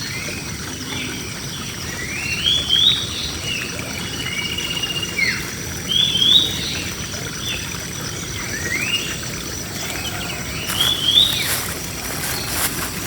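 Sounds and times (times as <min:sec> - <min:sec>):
birds singing whistled notes: 0:02.0 - 0:13.0.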